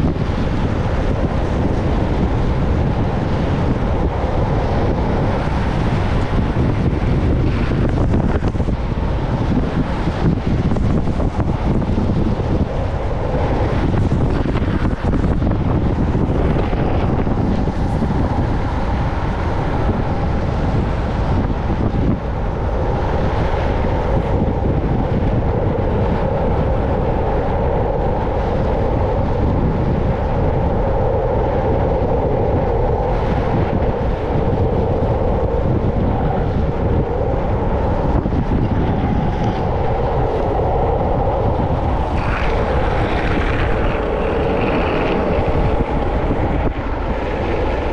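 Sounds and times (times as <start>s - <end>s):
wheels rolling on asphalt: 0.0s - 47.9s
wind rumbling on microphone: 0.0s - 47.9s.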